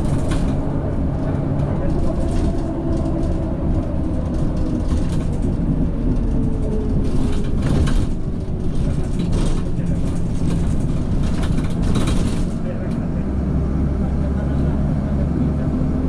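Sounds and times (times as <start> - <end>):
rattles: 0.0 - 13.0
bus engine drone: 0.0 - 16.0
road noise: 0.0 - 16.0.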